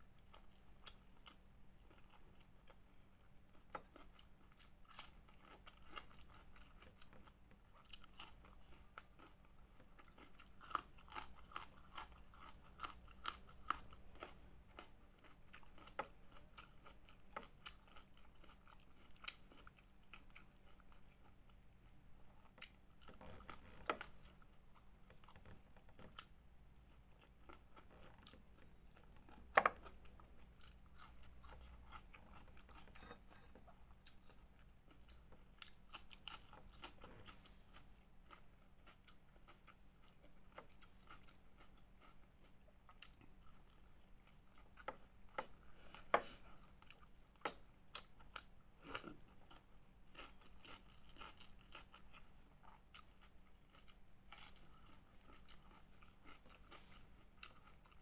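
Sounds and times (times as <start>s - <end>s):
person chewing crunchy food: 0.2s - 21.8s, 22.4s - 58.0s.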